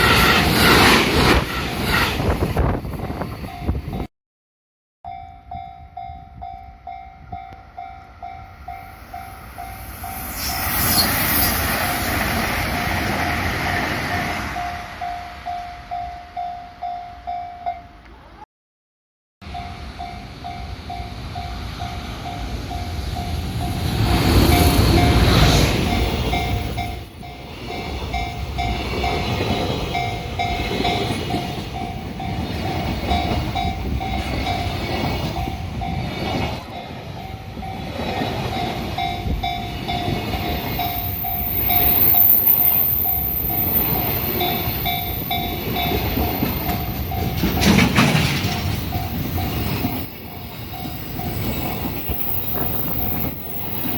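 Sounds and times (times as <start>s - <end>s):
train rumble and wheel clatter: 0.0s - 4.1s, 5.2s - 16.9s, 19.5s - 53.9s.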